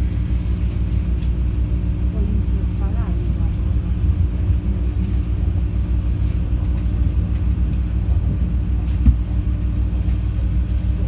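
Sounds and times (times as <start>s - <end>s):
train rumble inside carriage: 0.0s - 11.0s.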